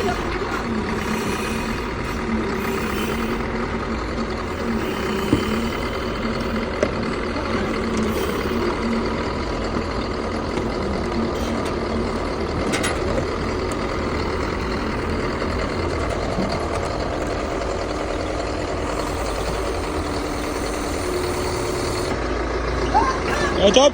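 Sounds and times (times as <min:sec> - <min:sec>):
heavy engine running: 0:00.0 - 0:23.9.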